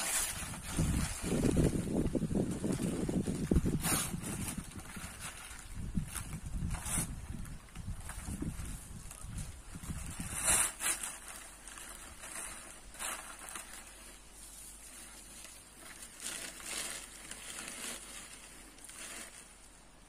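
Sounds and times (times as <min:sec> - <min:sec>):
dry leaves and twigs rustling: 0:00.0 - 0:20.0.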